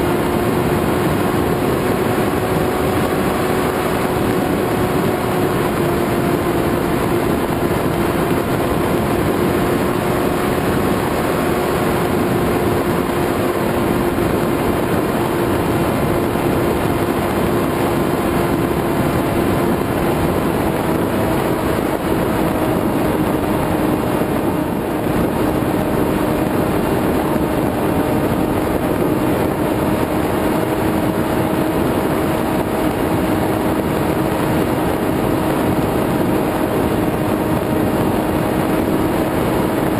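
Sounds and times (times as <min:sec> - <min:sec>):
wind noise: 0:00.0 - 0:39.9.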